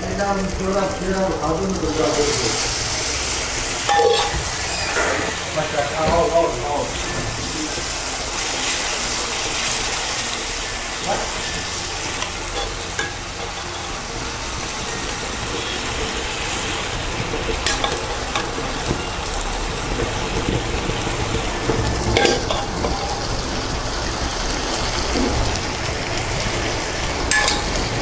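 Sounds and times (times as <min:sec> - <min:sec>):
gravy sizzling and bubbling: 0:00.0 - 0:28.0.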